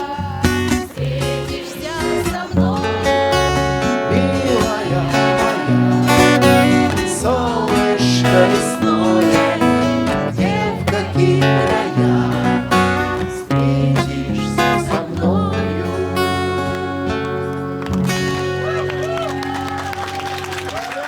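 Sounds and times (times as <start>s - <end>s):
strummed acoustic guitar: 0.0s - 20.7s.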